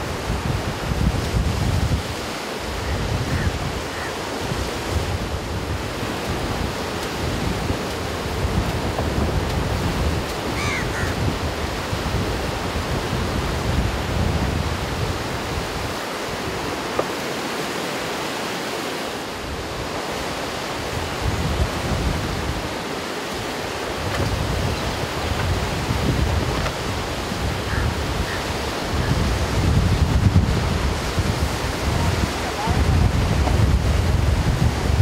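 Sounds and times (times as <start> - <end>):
wind rumble on microphone: 0.0 - 17.8, 19.2 - 35.0
ocean surf breaking: 0.0 - 35.0.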